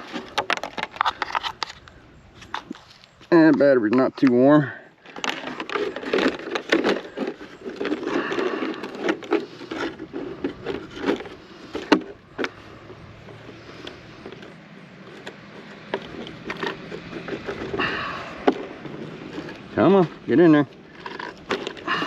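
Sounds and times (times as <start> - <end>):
knocks and clicks of handling: 0.0 - 2.8, 5.0 - 22.0.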